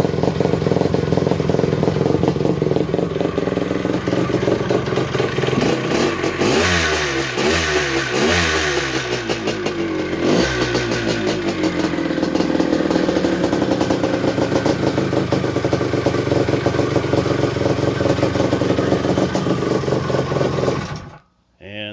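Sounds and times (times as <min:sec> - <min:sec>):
two-stroke motorcycle engine revving: 0:00.0 - 0:21.2.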